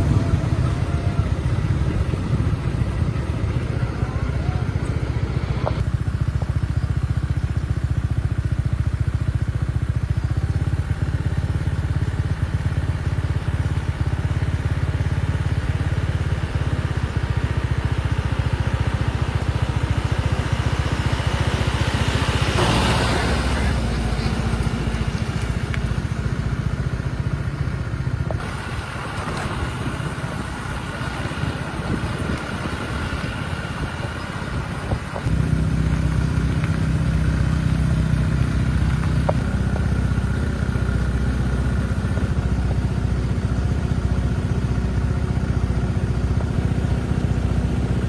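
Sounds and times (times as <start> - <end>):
engine running with low pulsing: 0.0 - 48.0.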